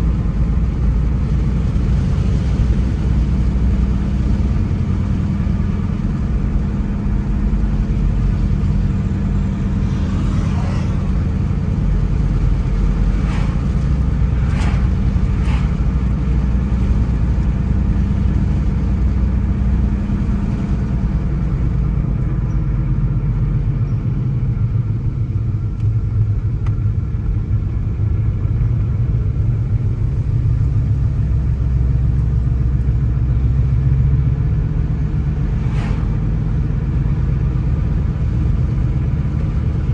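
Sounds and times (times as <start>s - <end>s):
car engine hum: 0.0s - 39.9s
road noise: 0.0s - 39.9s.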